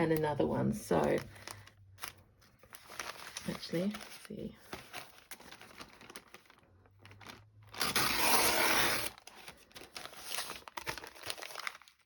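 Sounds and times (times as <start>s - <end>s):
paper bag crinkling: 1.0s - 12.0s.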